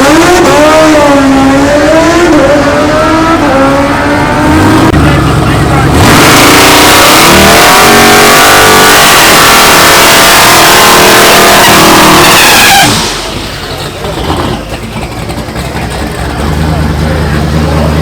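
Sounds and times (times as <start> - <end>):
racing car engine at full throttle: 0.0 - 18.0.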